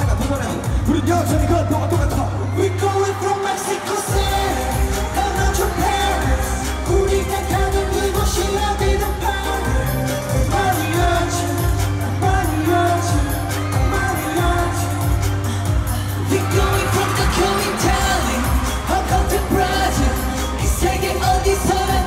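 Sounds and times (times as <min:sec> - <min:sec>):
person singing: 0:00.0 - 0:22.0
pop track with heavy bass: 0:00.0 - 0:22.0.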